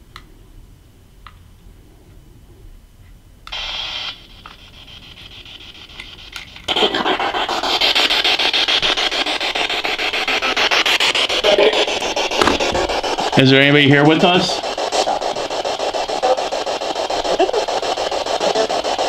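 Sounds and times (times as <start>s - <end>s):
radio static sweeping stations: 3.6s - 19.0s.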